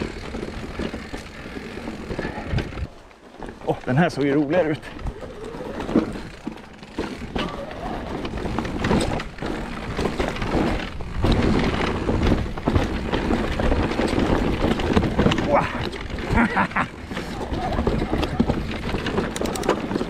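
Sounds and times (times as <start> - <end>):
bike knocking and rattling: 0.0 - 20.0
bike tyres rolling on dirt: 0.0 - 20.0.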